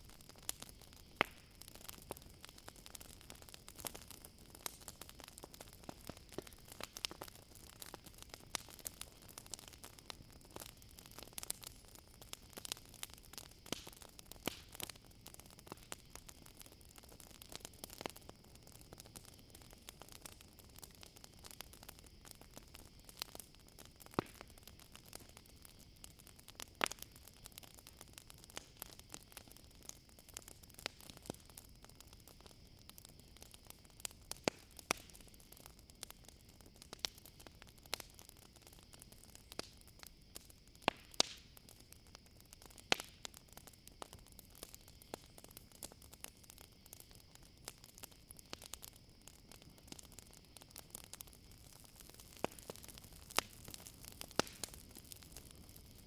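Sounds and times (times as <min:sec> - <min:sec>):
campfire crackling: 0:00.0 - 0:56.0
insects chirring: 0:00.0 - 0:56.0.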